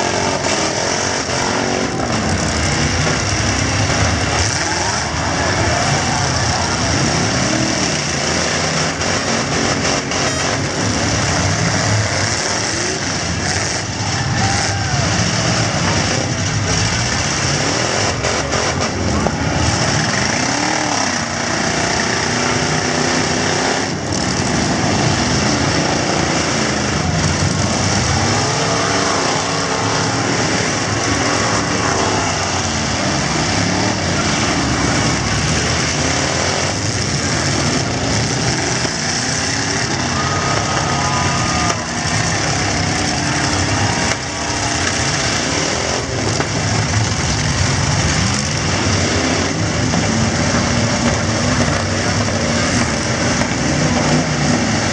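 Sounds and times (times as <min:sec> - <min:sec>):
truck engines revving: 0:00.0 - 0:54.9.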